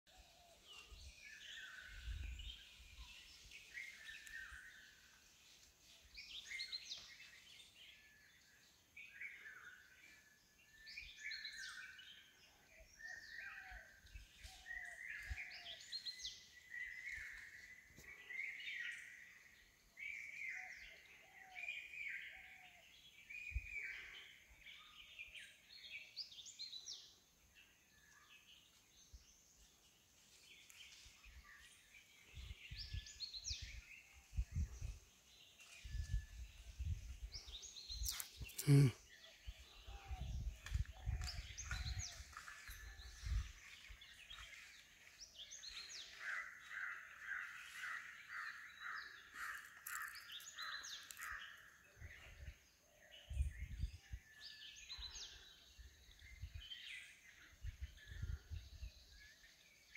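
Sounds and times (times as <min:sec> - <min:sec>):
birds chirping and singing: 0:00.1 - 0:59.9.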